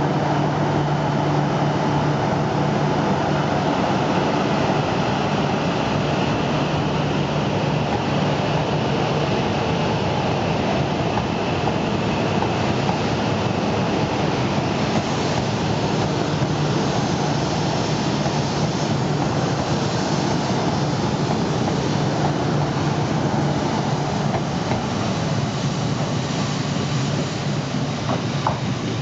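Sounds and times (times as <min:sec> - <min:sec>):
train rolling past: 0:00.0 - 0:29.0.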